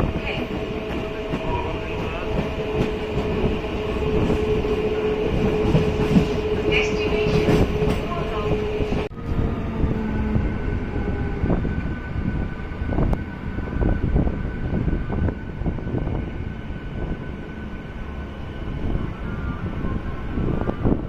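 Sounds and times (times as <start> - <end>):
electric train rumbling on track: 0.0 - 21.0.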